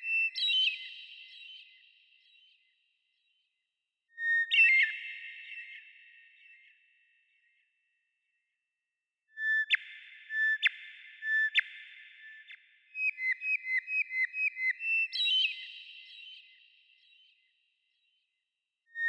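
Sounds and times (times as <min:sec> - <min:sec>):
bird song whistled notes: 0:00.0 - 0:03.4, 0:04.1 - 0:07.6, 0:09.4 - 0:18.2.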